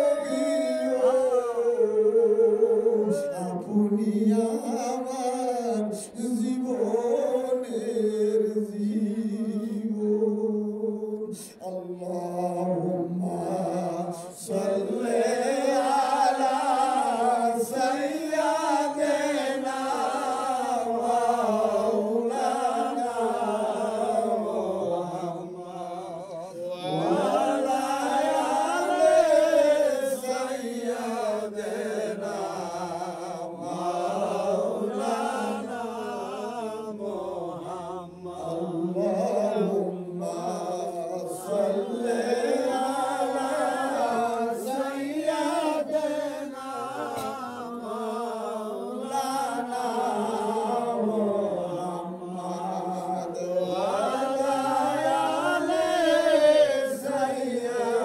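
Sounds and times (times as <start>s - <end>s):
man chanting devotional call: 0.0s - 58.0s.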